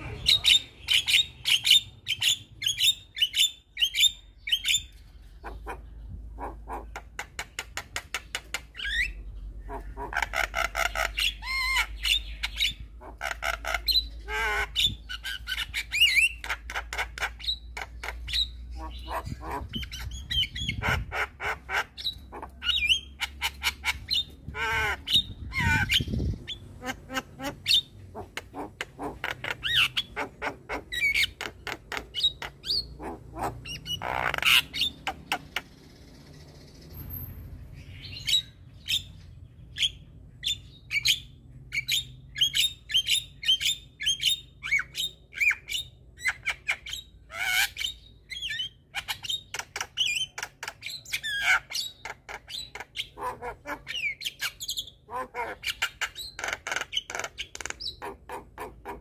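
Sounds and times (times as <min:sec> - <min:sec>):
bird squawks: 0:00.0 - 0:07.6, 0:08.2 - 0:35.7, 0:39.8 - 0:59.0.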